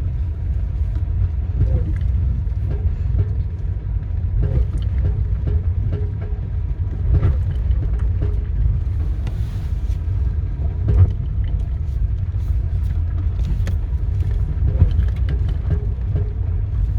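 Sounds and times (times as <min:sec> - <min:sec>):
car engine low rumble: 0:00.0 - 0:16.9.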